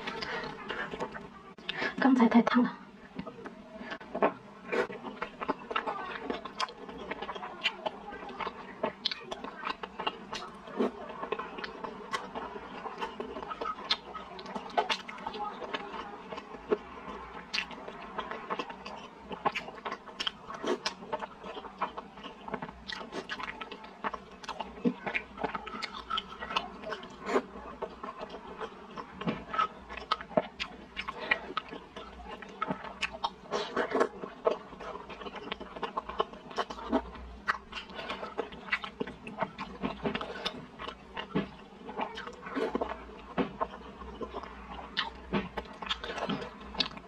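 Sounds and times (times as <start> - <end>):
person chewing with mouth clicks: 3.2 - 47.0.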